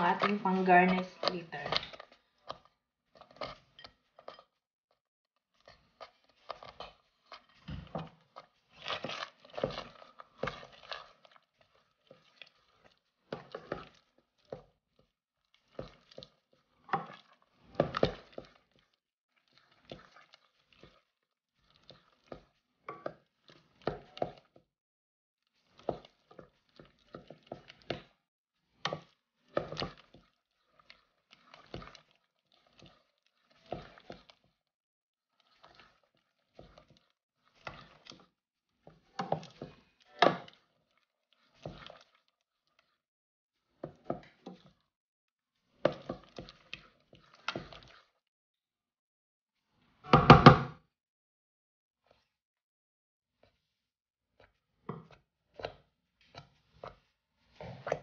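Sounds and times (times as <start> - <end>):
wooden spoon scraping a pot: 0.0 - 4.6, 5.4 - 24.7, 25.5 - 34.7, 35.3 - 43.0, 43.6 - 44.9, 45.6 - 48.2, 52.0 - 52.4, 53.3 - 58.0.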